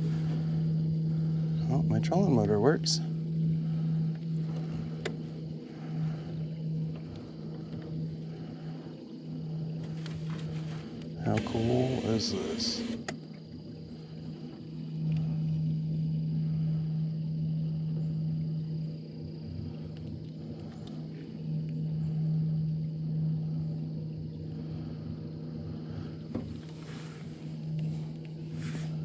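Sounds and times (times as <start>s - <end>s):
electric trolling motor humming: 0.0s - 29.0s.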